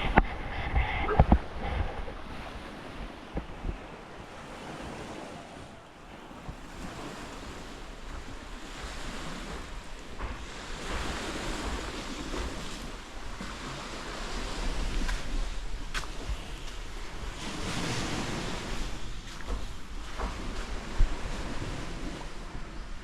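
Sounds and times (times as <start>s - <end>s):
sea waves breaking on sand: 0.0s - 23.0s
wind rumbling on microphone: 0.0s - 23.0s.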